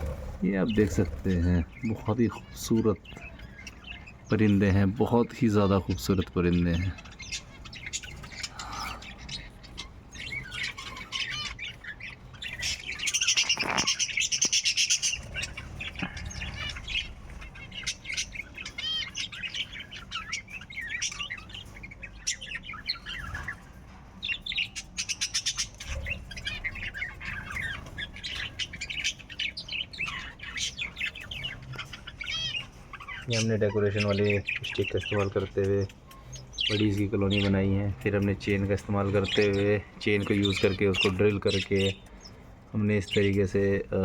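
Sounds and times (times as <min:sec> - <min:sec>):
budgerigars chattering and warbling: 0:00.0 - 0:44.0.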